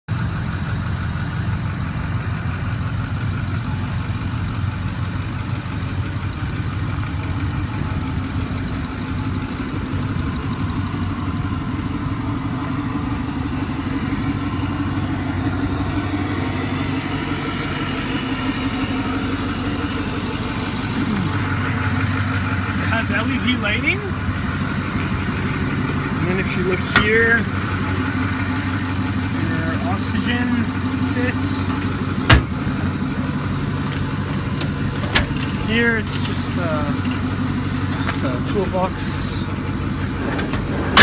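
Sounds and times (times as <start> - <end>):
diesel engine idling: 0.1 - 41.0.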